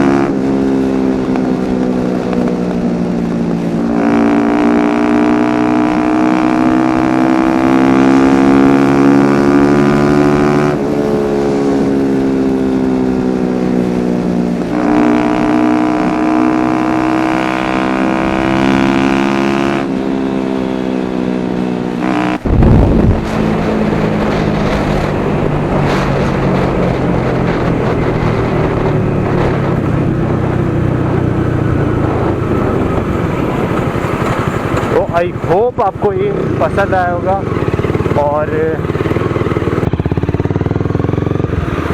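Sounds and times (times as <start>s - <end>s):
heavy wind noise: 0.0s - 41.9s
motorcycle engine accelerating: 0.0s - 41.9s.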